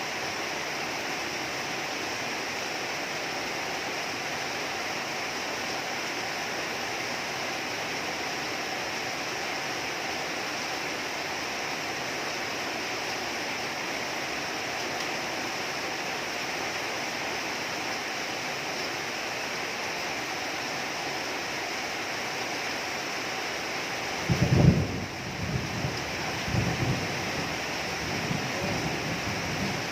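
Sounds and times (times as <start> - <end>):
heavy rain: 0.0 - 29.9.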